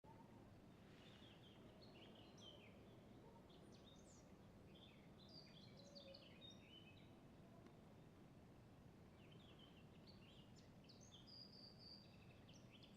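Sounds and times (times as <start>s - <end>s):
low background noise: 0.0s - 12.9s
songbirds chirping and twittering: 0.1s - 8.3s, 8.9s - 12.9s.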